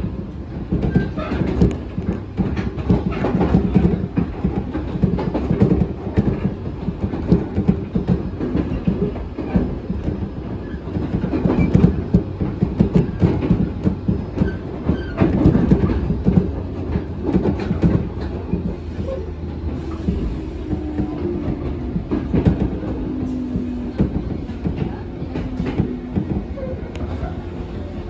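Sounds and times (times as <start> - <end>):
train running over rails: 0.0 - 28.0
wheels clattering over rail joints: 0.6 - 27.5.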